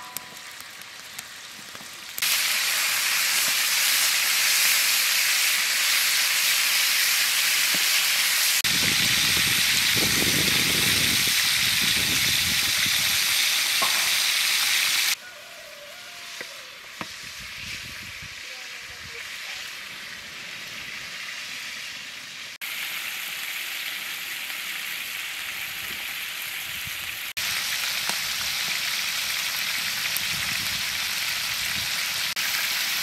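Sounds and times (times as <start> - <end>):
chicken frying in oil: 0.0 - 33.0.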